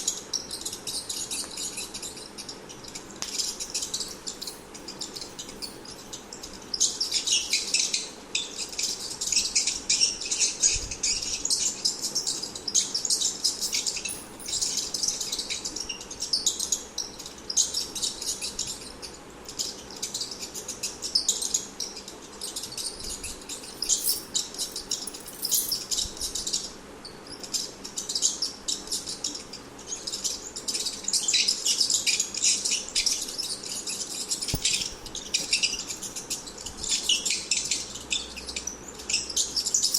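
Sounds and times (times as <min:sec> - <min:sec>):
rats squeaking: 0:00.6 - 0:21.3, 0:21.9 - 0:26.6, 0:27.3 - 0:39.9.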